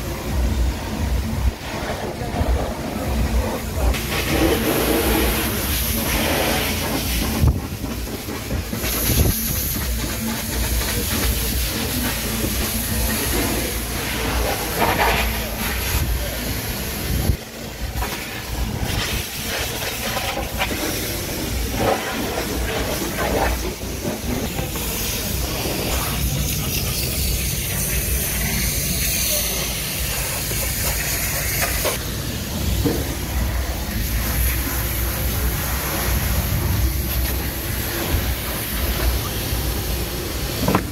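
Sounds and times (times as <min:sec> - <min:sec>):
machine hum and hiss: 0:00.0 - 0:40.9.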